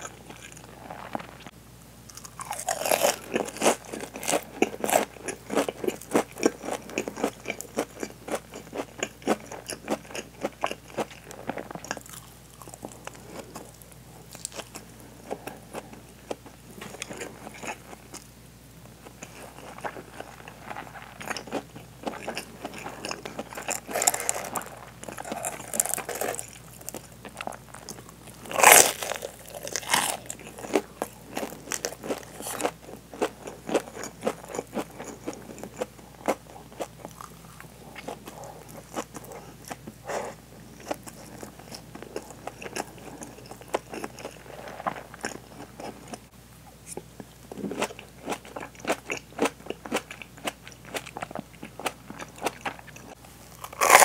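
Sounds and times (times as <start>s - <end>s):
crunching fried food: 0.0s - 18.3s, 18.9s - 46.3s, 46.9s - 54.0s
soft chewing: 0.0s - 54.0s.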